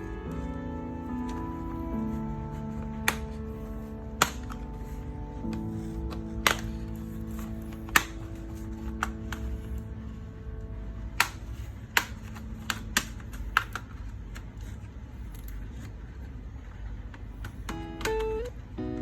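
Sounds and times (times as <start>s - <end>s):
held background music notes: 0.0s - 15.5s, 17.4s - 19.0s.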